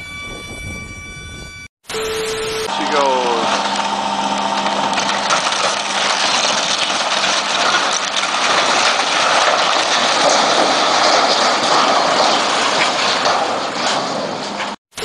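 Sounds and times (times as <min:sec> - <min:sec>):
tower collapsing with cracking: 0:02.7 - 0:14.8.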